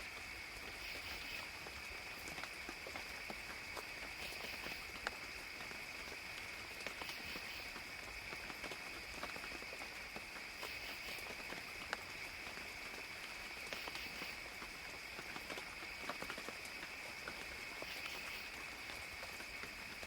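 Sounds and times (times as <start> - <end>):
gentle rain hiss: 0.0 - 20.0
raindrops dripping and tapping: 0.0 - 20.0.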